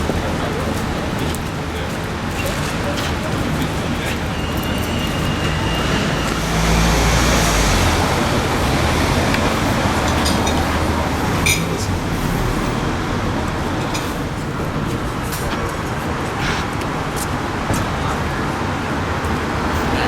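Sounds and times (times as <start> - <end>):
road traffic: 0.0 - 20.0
loud low engine sound: 2.5 - 20.0.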